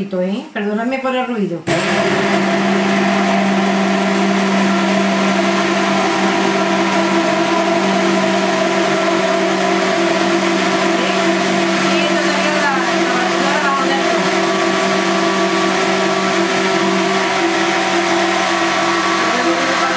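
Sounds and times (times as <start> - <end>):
hand blender motor hum: 1.7 - 19.9.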